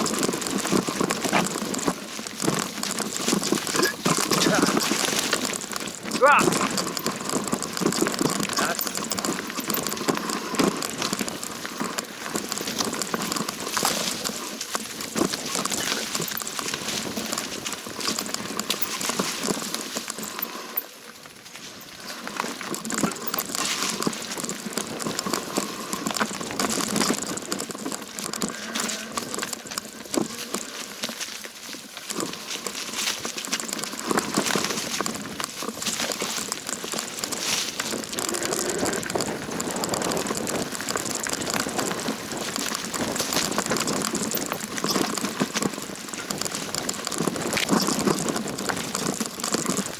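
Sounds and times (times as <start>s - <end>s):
bicycle tyres crackling over gravel: 0.0s - 49.9s
bike rattling: 0.0s - 49.9s.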